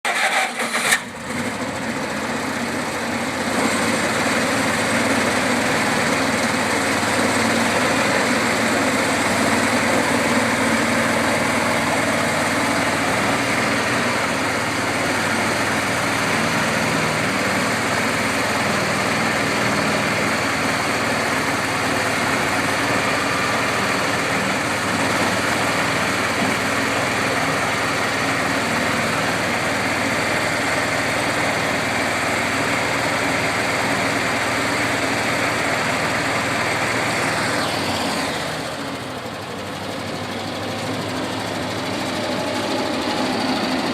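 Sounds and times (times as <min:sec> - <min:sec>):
skid steer engine starting and running: 0:00.0 - 0:43.9.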